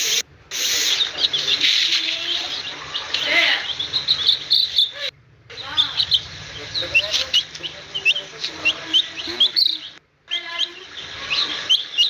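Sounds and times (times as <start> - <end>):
chicks peeping: 0.0 - 12.0
lower bird calls: 0.0 - 12.0.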